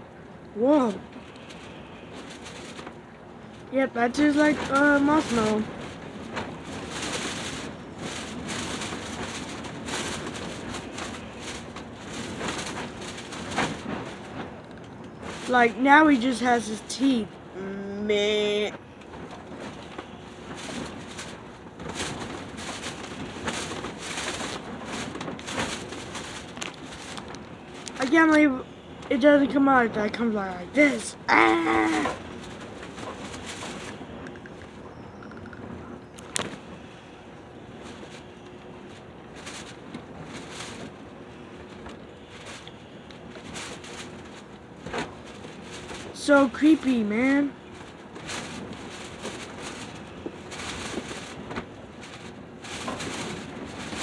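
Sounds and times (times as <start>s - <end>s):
faint clicks and rustles: 0.0s - 54.0s
low steady hum: 0.0s - 54.0s.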